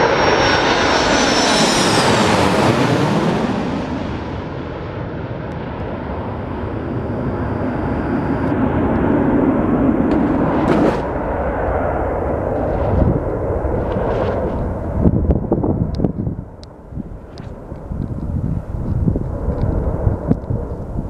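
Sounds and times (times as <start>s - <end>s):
jet fighters roaring past: 0.0s - 21.0s.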